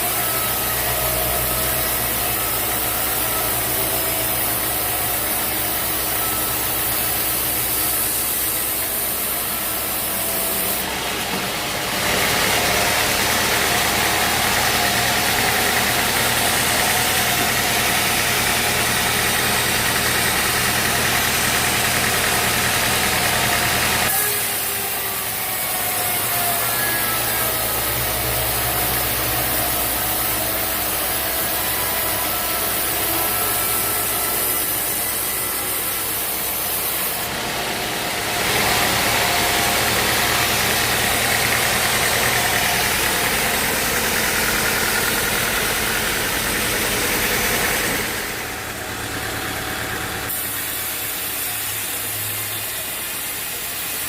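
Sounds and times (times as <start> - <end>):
saw blade cutting log: 0.0 - 54.0
sawmill engine running: 0.0 - 54.0.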